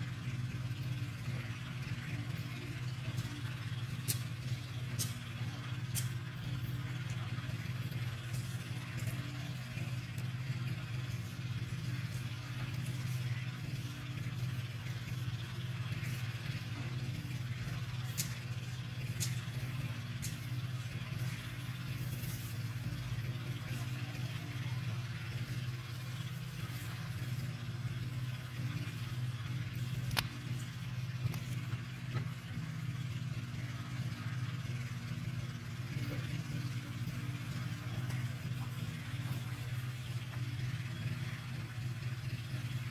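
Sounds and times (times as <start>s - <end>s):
motor humming: 0.0s - 42.9s.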